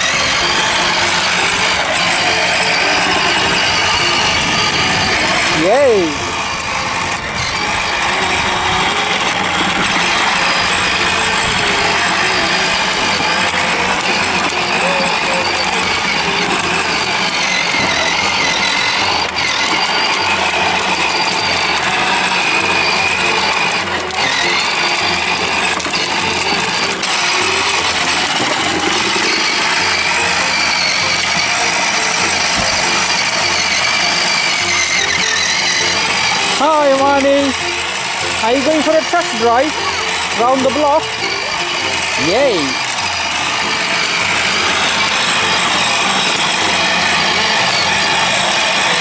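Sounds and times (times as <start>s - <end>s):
toy electric motor whirring: 0.0s - 49.0s.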